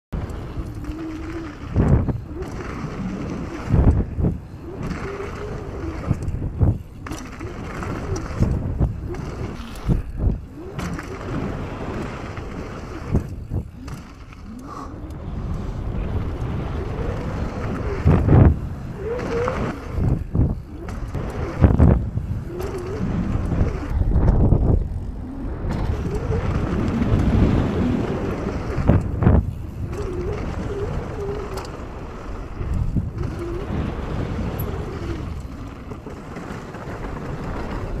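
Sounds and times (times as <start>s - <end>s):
tyres rumbling over dirt: 0.1s - 14.7s, 15.3s - 38.0s
wind noise on microphone: 0.1s - 38.0s.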